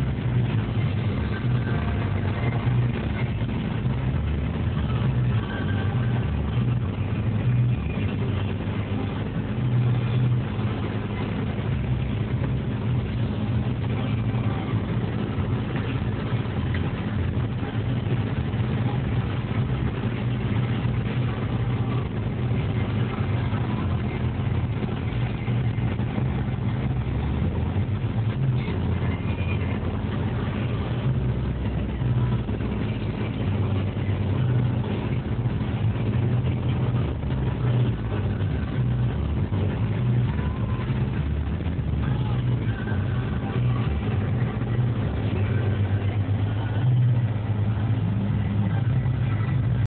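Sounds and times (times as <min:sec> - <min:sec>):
car engine drone: 0:00.0 - 0:49.9
road noise: 0:00.0 - 0:49.9.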